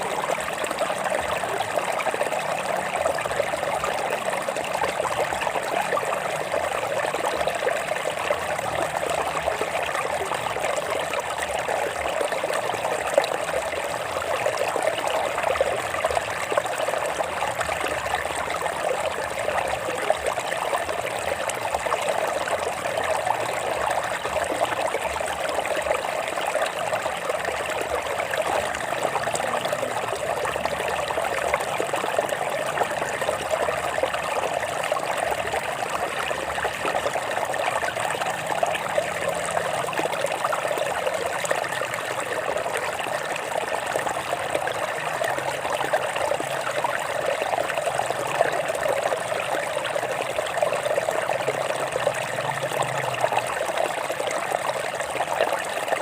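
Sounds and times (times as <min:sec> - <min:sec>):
stream water over rocks: 0:00.0 - 0:56.0.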